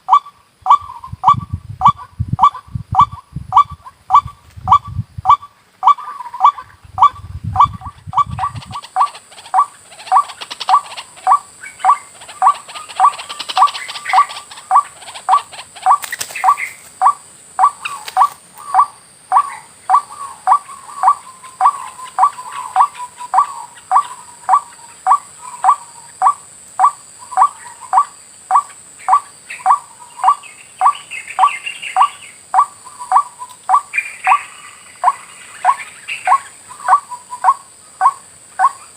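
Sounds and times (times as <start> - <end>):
waterhen calling: 0.0 - 38.9.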